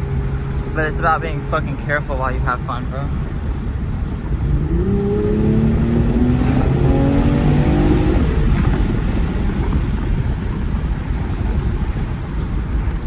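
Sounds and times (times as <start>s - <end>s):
car engine accelerating hard: 0.0s - 13.0s
wind and road noise: 0.0s - 13.0s.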